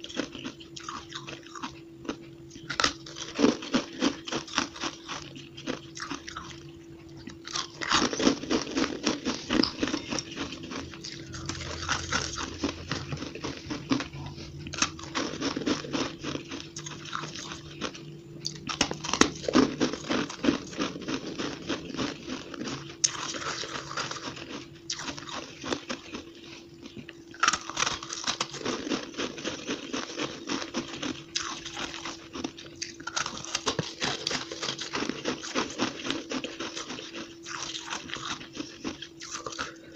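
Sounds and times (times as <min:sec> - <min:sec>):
faint steady hum: 0:00.0 - 0:39.9
crunching shaved ice: 0:02.7 - 0:06.6, 0:07.4 - 0:14.1, 0:14.8 - 0:26.5, 0:27.3 - 0:39.8.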